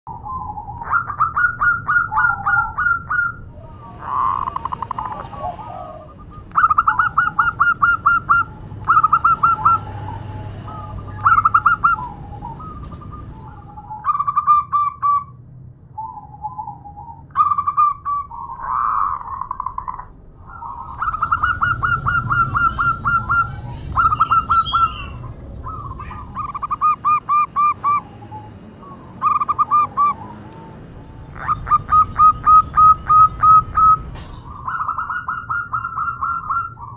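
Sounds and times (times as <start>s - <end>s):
dove staccato cooing: 0.2s - 15.2s, 16.0s - 36.9s.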